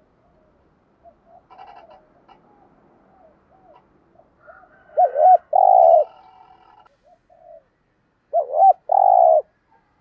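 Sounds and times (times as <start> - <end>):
dove cooing: 0.2 - 7.7, 8.3 - 9.6.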